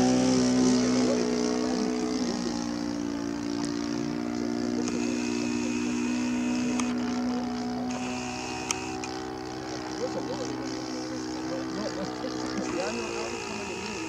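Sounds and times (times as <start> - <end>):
model airplane engine drone: 0.0 - 14.0.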